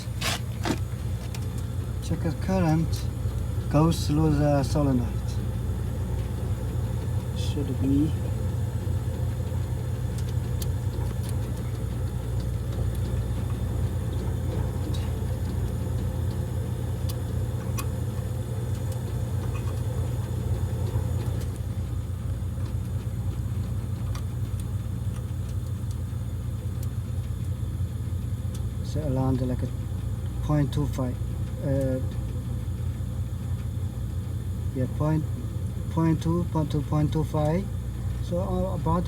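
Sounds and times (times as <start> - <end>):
gas heater humming: 0.0 - 39.0.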